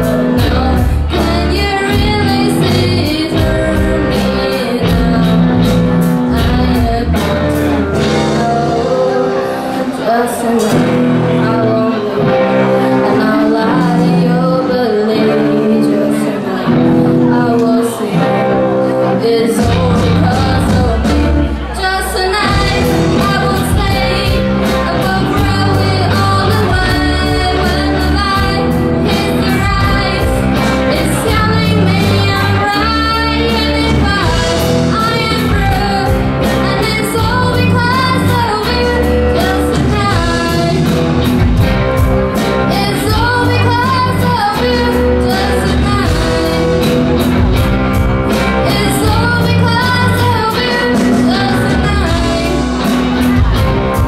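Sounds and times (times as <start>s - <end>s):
person singing: 0.0s - 54.0s
rock band playing live: 0.0s - 54.0s.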